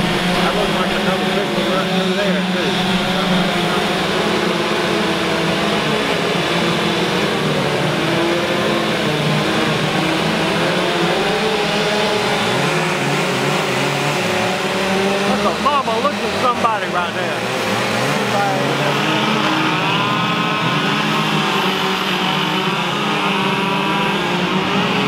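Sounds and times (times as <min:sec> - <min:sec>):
chainsaws revving: 0:00.0 - 0:25.0.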